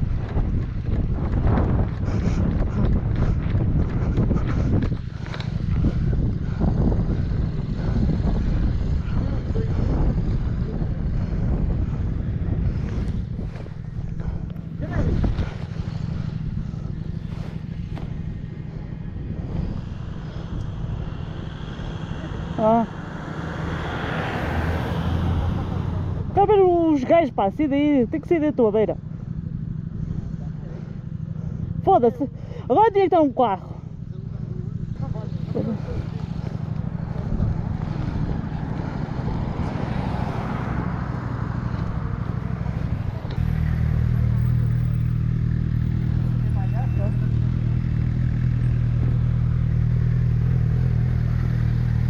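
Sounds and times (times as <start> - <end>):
motorcycle engine droning: 0.0 - 52.0.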